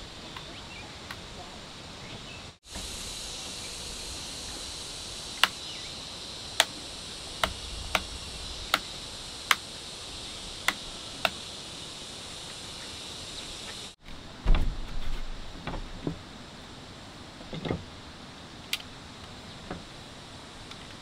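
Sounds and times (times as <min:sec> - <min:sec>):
high insect drone: 0:00.0 - 0:14.6, 0:15.4 - 0:21.0.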